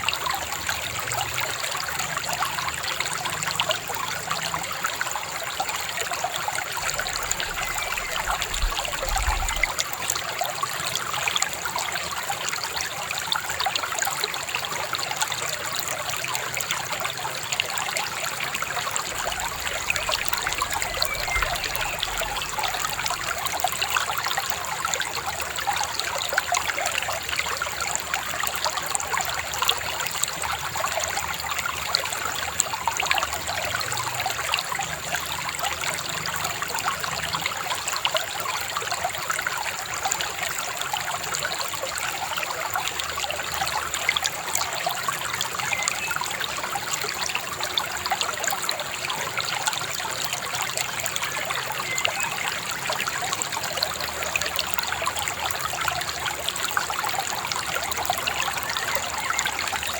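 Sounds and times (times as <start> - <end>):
babbling river: 0.0 - 59.9.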